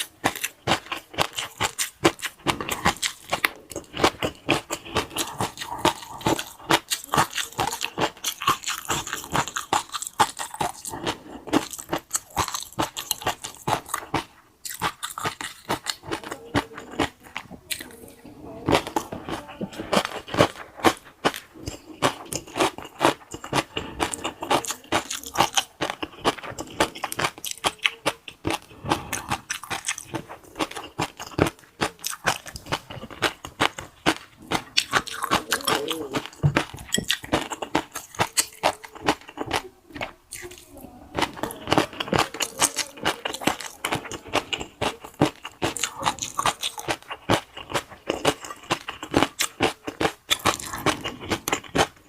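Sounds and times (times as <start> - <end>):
chewing crunchy food: 0.0 - 52.0.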